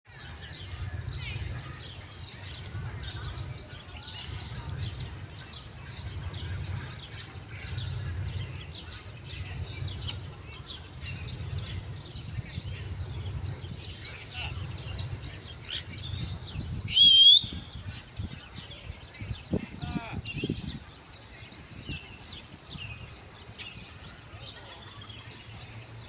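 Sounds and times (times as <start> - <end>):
low rumble: 0.1 - 24.2.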